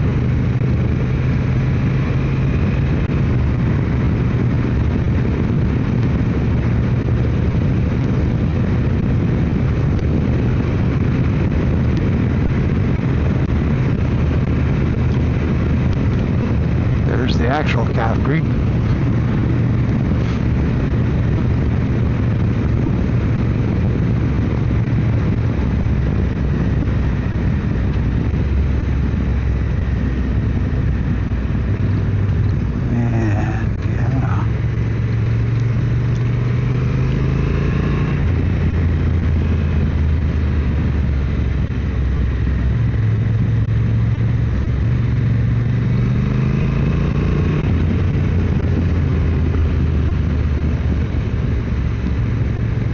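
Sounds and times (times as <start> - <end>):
motorcycle engine running: 0.0 - 52.9
wind noise: 0.0 - 52.9.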